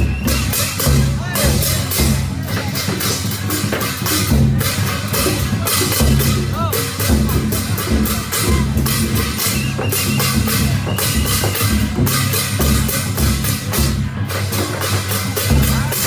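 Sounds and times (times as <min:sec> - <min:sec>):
drums and percussion beat: 0:00.0 - 0:16.0.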